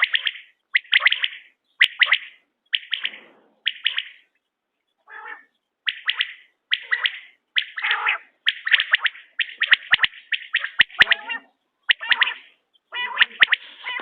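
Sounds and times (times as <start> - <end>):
quail calling: 0.0 - 4.3, 5.0 - 14.0.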